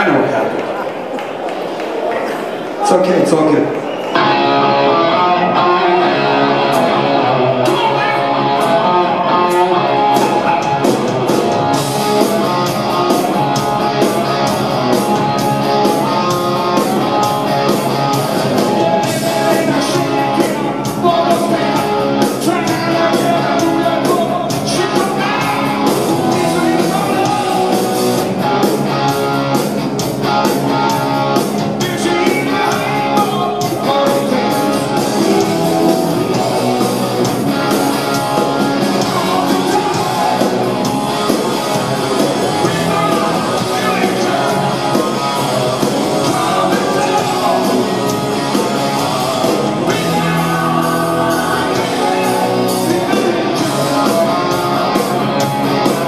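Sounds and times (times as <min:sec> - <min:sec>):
rock band playing live: 0:03.6 - 0:56.0
person singing: 0:04.2 - 0:29.4, 0:30.4 - 0:56.0
drums and cymbals: 0:09.5 - 0:56.0.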